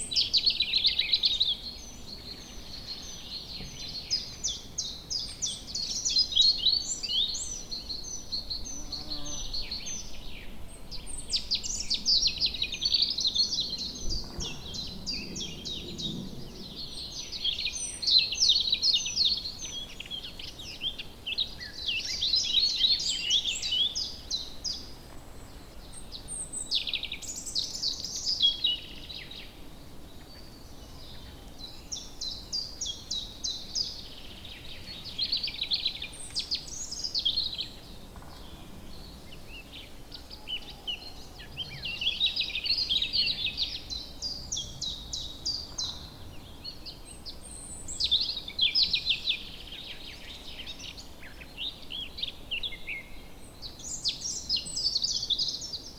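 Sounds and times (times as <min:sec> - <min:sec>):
birds chirping song: 0:00.0 - 0:55.9.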